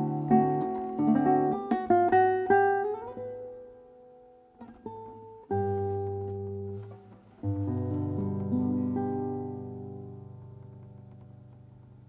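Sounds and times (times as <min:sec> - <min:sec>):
classical guitar playing: 0:00.0 - 0:12.0.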